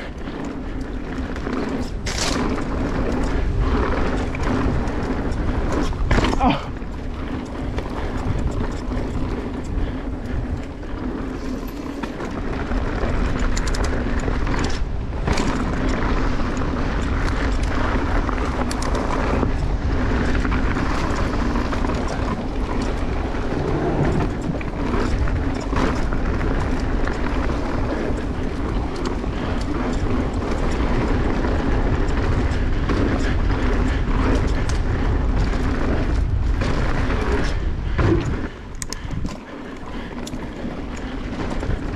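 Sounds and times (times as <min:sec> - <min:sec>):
bike tyres rolling on dirt: 0:00.0 - 0:41.9
wind rushing over microphone: 0:00.0 - 0:41.9.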